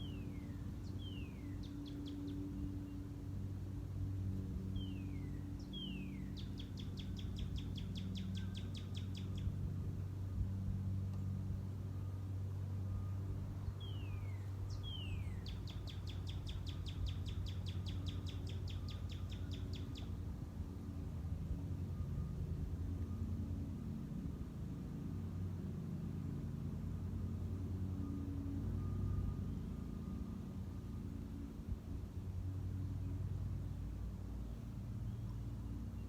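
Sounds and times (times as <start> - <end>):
songbird singing: 0.0 - 36.0
steady low hum: 0.0 - 36.0.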